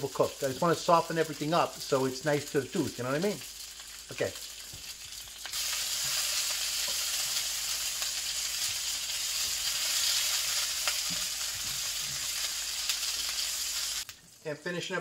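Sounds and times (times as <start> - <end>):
peppers sizzling in hot oil: 0.0 - 14.6.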